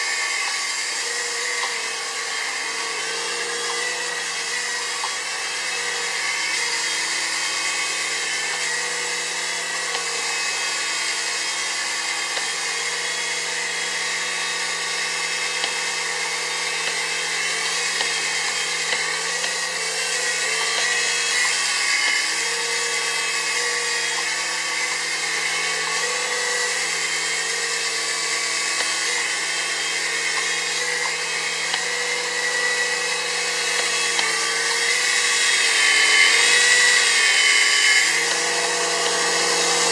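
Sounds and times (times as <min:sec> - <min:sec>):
toy helicopter rotors whining: 0:00.0 - 0:39.9.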